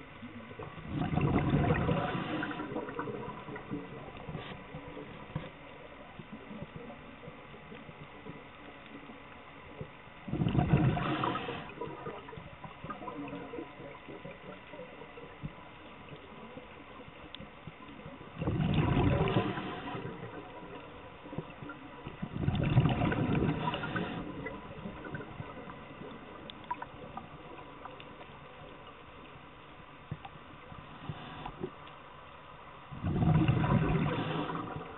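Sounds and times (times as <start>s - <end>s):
scuba bubbles gurgling underwater: 0.0s - 31.9s, 32.9s - 34.9s
faint steady background noise: 0.0s - 34.9s.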